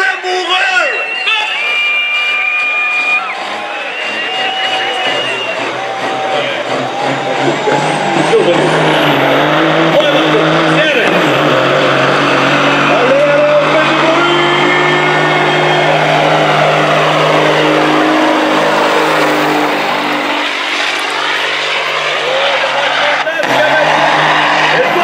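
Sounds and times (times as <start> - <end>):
truck diesel engine under load: 1.5 - 25.0.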